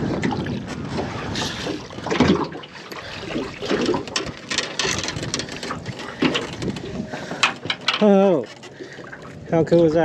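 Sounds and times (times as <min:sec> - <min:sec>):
water splashing and trickling: 0:00.0 - 0:10.0.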